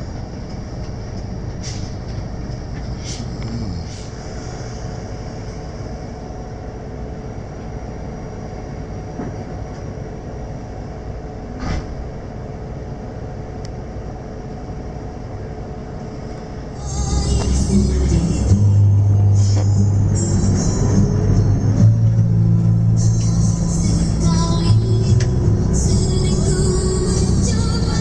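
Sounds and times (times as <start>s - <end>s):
bus engine hum: 0.0s - 28.0s.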